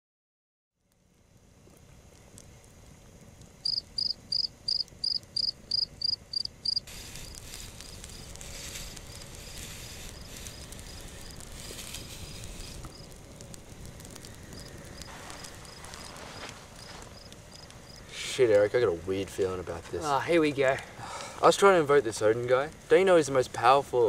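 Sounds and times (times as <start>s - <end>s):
campfire hissing and crackling: 0.8s - 24.0s
cricket chirping: 3.6s - 24.0s.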